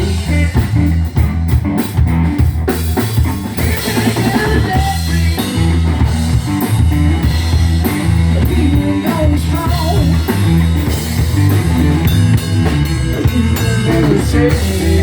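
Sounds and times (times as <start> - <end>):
bass guitar notes: 0.0 - 15.0
drum kit beating: 0.0 - 15.0
electric guitar: 0.0 - 15.0.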